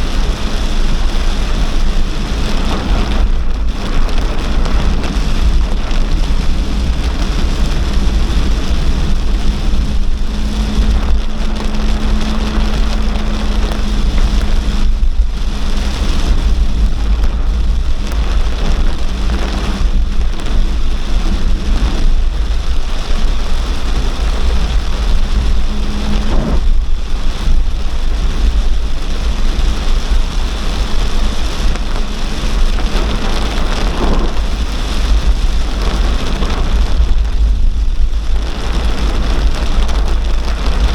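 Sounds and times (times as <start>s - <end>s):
deep rumble of thunder: 0.0s - 40.9s
heavy rain pouring: 0.0s - 40.9s.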